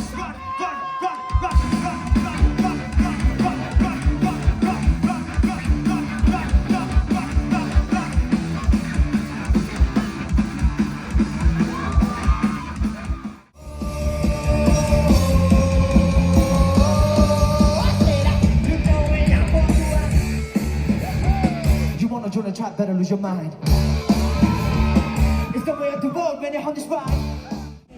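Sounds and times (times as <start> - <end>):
rock music with singing: 0.0 - 27.9.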